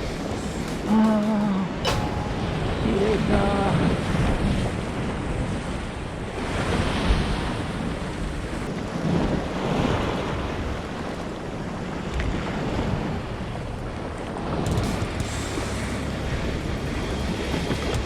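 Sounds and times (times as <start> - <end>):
sea waves washing onto shore: 0.0 - 18.0
wind rumbling on microphone: 0.0 - 18.0.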